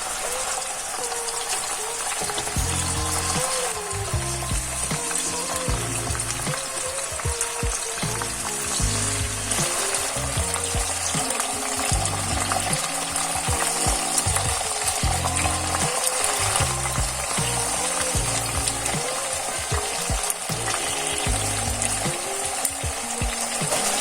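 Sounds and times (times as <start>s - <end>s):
chicken wings frying in oil: 0.0s - 24.0s.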